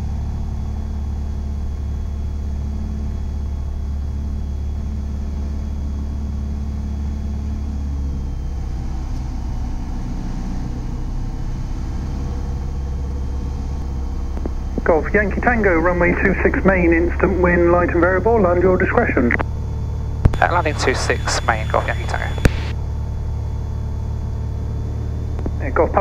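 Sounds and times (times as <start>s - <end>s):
aircraft engine and propeller: 0.0s - 26.0s.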